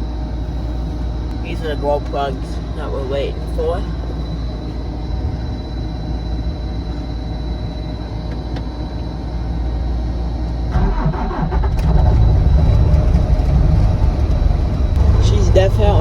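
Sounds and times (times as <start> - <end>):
diesel engine starting and running: 0.0 - 16.0
steady low rumble: 0.0 - 16.0.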